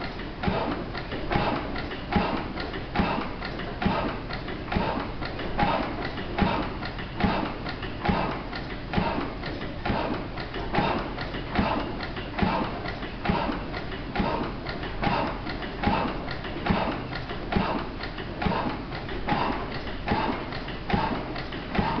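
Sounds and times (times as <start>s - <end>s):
light engine ticks: 0.0s - 22.0s
stationary engine beating: 0.0s - 22.0s.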